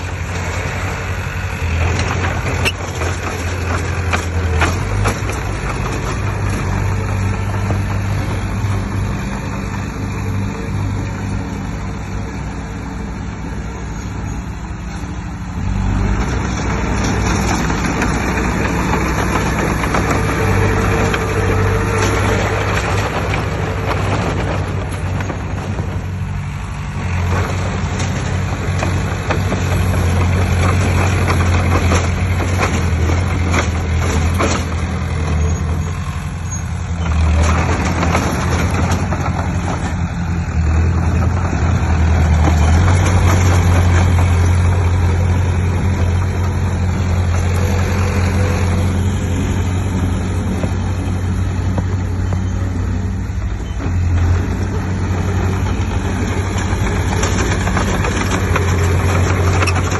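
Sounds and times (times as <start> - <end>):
heavy diesel machinery engine hum: 0.0 - 59.9
knocks and clatters: 1.6 - 11.4, 15.8 - 59.9.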